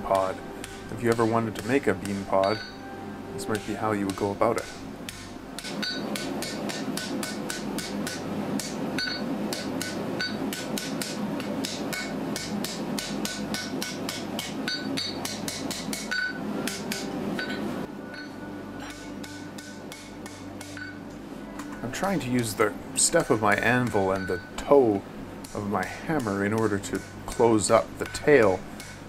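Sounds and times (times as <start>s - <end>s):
hammer striking steel on anvil: 0.0s - 2.8s, 3.4s - 21.1s, 23.2s - 29.0s.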